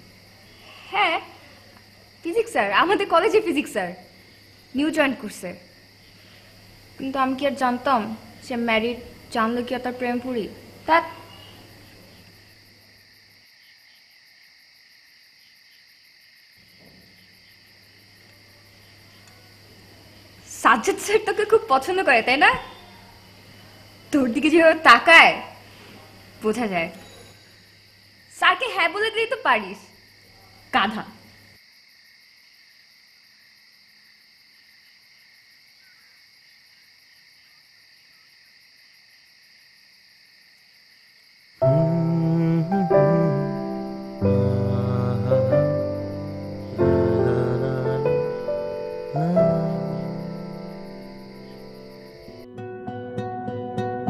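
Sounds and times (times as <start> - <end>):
crickets chirring: 0.0 - 52.6.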